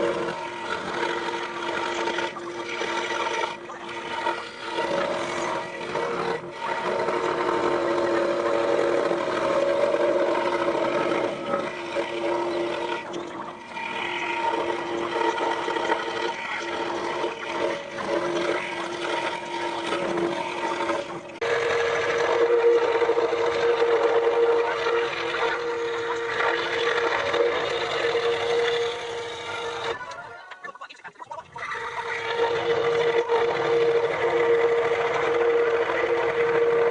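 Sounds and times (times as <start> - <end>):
scroll saw cutting wood: 0.0 - 30.7, 31.6 - 36.9.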